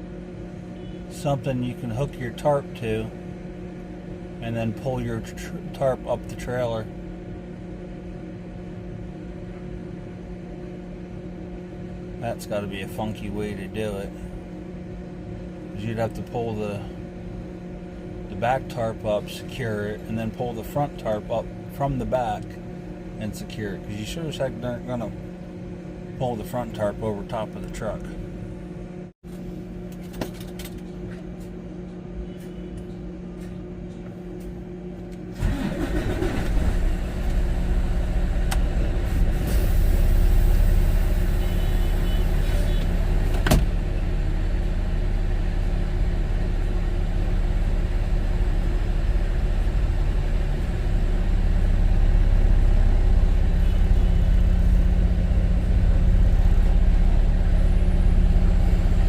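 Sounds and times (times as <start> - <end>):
large vehicle engine rumble: 0.0 - 59.0
steady machine hum: 0.0 - 59.0.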